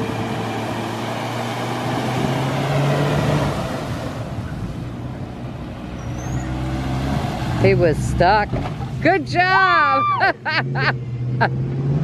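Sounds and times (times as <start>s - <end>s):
vehicle engine revving: 0.0s - 9.5s, 10.5s - 12.0s.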